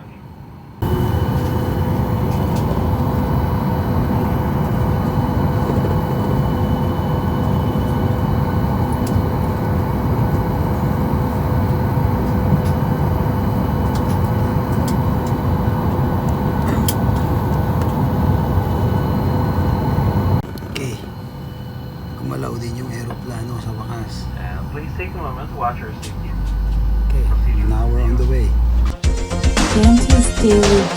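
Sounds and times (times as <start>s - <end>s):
airliner engines low rumble: 0.0s - 29.0s
cabin hum: 0.8s - 30.9s.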